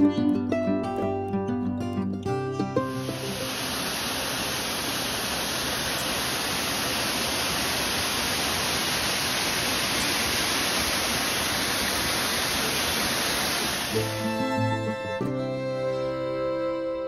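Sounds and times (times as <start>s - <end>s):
waterfall rushing: 2.6s - 16.8s.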